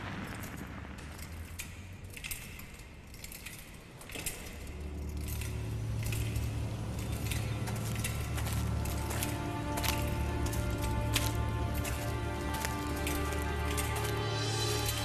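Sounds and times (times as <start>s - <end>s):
low drone: 0.0s - 15.0s
sharp clicks and crackles: 0.0s - 15.0s.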